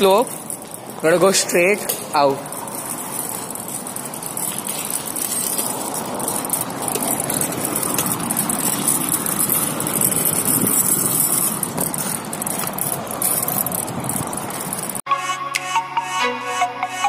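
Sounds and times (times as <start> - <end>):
bicycle tyres rolling: 0.0 - 15.0.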